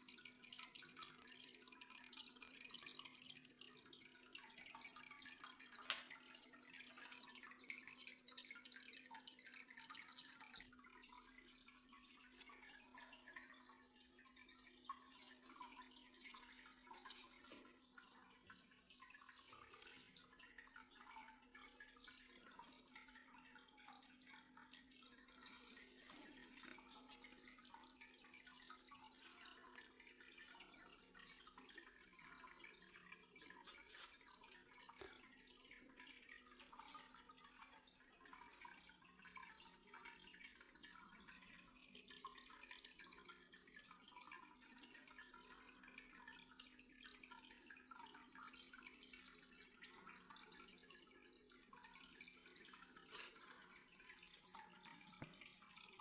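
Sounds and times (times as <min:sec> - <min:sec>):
water dripping: 0:00.0 - 0:56.0.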